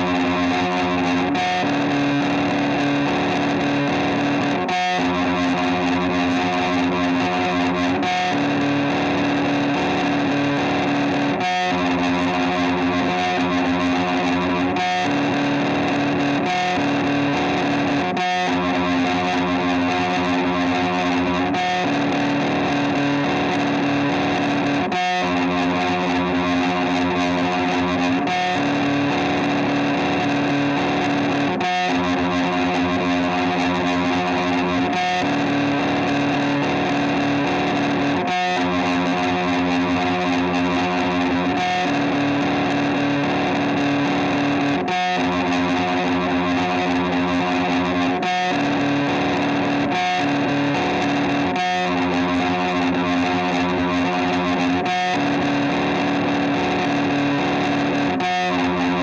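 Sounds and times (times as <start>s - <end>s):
distorted electric guitar drone: 0.0s - 59.0s.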